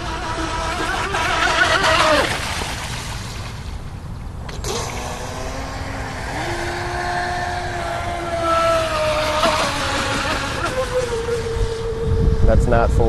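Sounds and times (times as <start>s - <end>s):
electric motor whine: 0.0s - 2.4s, 4.4s - 13.0s
water rushing: 0.0s - 12.2s.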